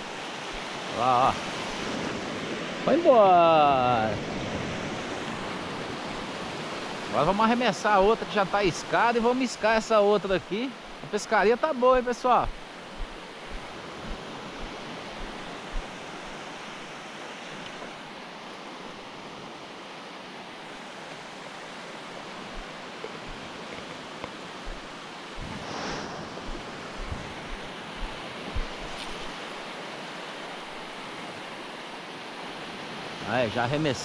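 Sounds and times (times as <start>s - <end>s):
surf breaking on beach: 0.0s - 17.0s, 20.9s - 31.8s.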